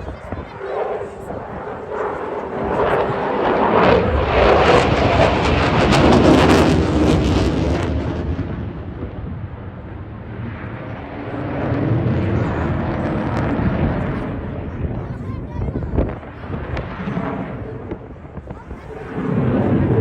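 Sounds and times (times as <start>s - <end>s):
crackling jet noise: 0.0s - 20.0s.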